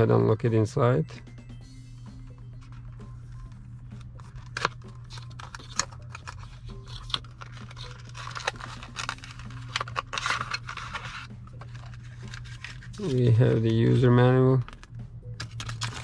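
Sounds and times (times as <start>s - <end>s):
steady low hum: 0.0s - 16.0s
cardboard packaging rustling: 2.6s - 16.0s.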